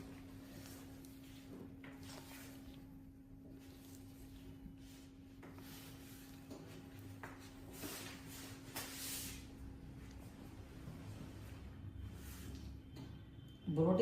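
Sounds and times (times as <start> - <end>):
rustling and handling: 0.0 - 11.6
steady low hum: 0.0 - 13.8.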